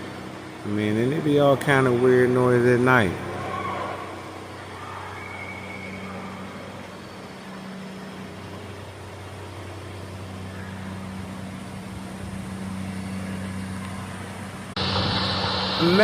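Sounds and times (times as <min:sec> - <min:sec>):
diesel locomotives idling: 0:00.0 - 0:16.0.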